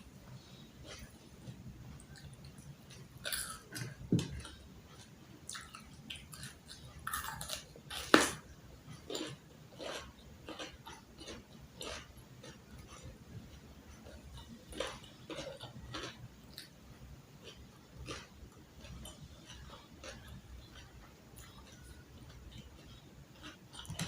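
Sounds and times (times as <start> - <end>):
person chewing and crunching: 0.2 - 24.0.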